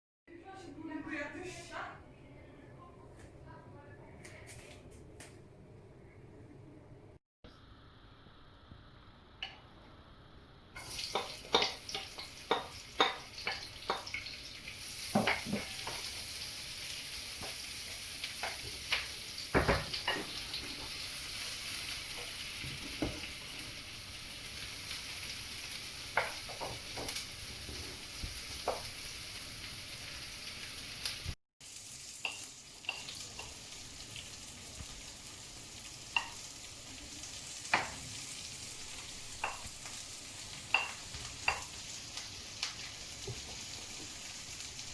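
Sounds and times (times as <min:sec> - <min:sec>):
food sizzling in a wok: 0:07.6 - 0:44.9.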